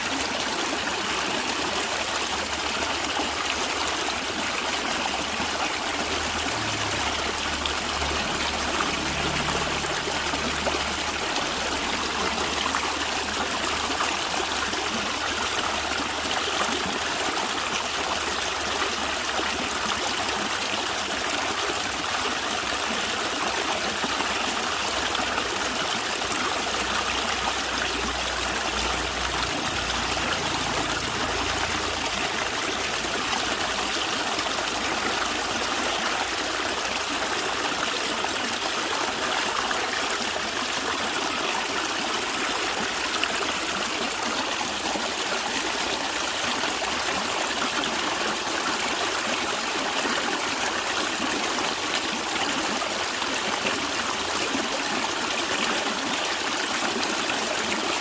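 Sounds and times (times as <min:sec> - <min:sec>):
stream water gurgling: 0:00.0 - 0:58.0.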